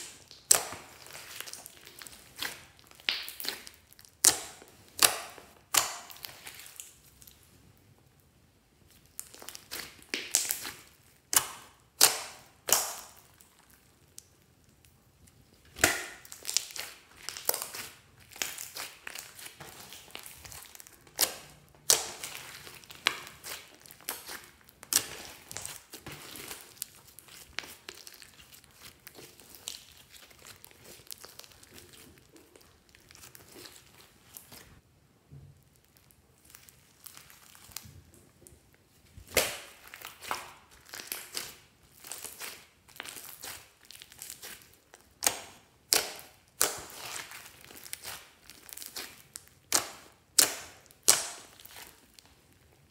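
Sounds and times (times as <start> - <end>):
slime squelching: 0.0 - 7.9, 8.7 - 34.8, 35.6 - 52.9.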